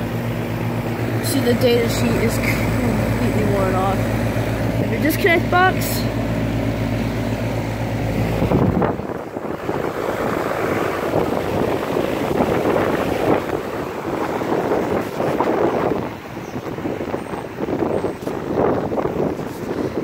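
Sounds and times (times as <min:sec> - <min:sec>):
air conditioner humming: 0:00.0 - 0:19.3
wind buffeting microphone: 0:00.0 - 0:20.0.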